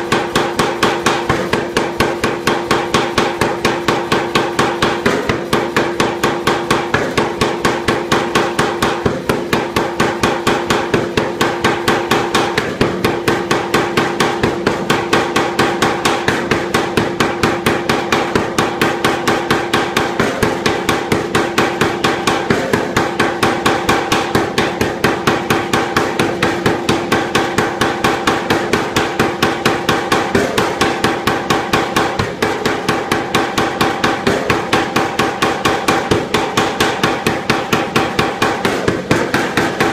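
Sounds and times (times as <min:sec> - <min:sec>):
air hammer pounding steel: 0:00.0 - 0:39.9.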